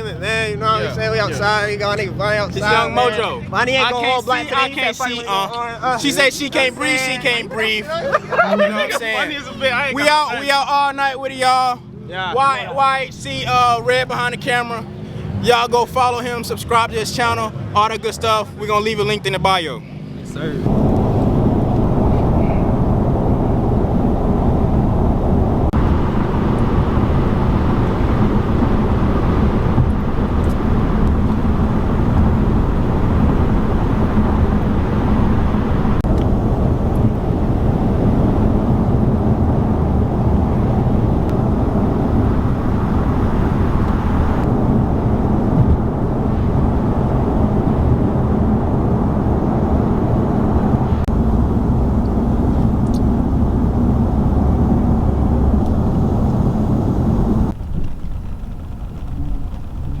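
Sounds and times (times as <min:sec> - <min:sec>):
car engine: 0:00.0 - 1:00.0
road noise: 0:00.0 - 1:00.0.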